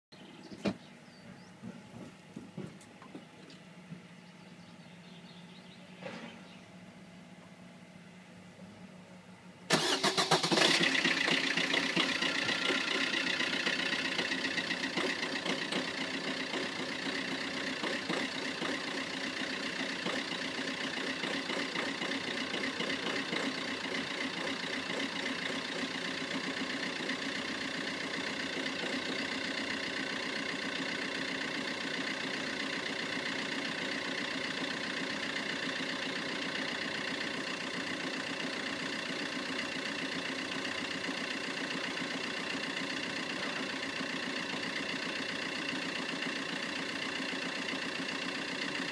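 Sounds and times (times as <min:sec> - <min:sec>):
car engine starting and idling: 0:09.6 - 0:48.9.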